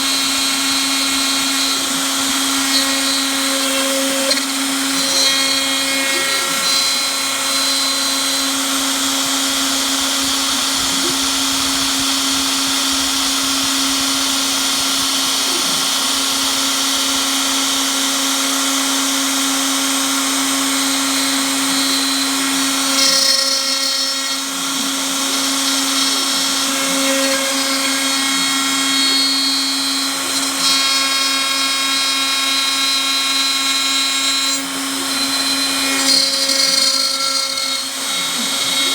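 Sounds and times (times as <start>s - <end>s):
spindle motor whine: 0.0s - 38.9s.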